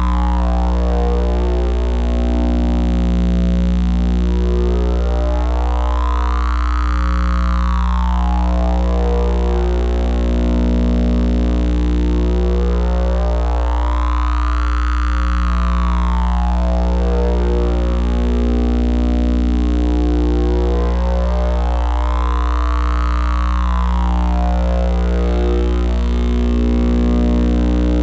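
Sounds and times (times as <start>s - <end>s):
electronic drone low hum: 0.0s - 28.0s.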